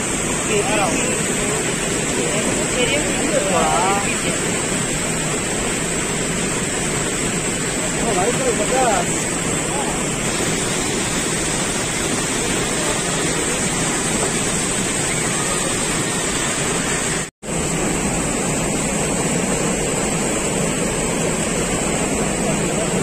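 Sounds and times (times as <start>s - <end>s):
water rushing through a weir: 0.0s - 23.0s.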